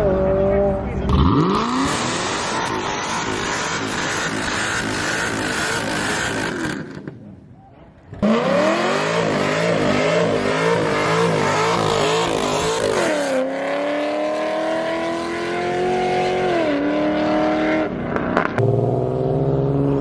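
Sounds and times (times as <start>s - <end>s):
car engine revving: 0.0s - 7.0s, 8.1s - 20.0s.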